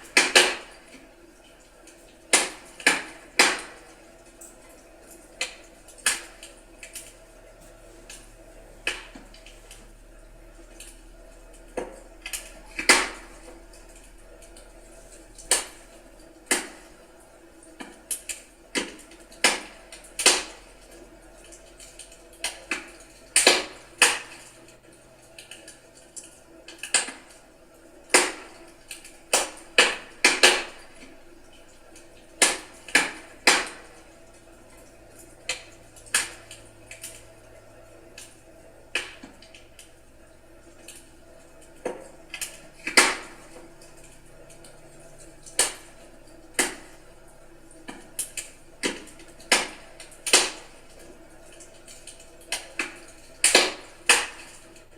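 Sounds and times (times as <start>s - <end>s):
firewood crackling in fireplace: 0.0s - 54.9s.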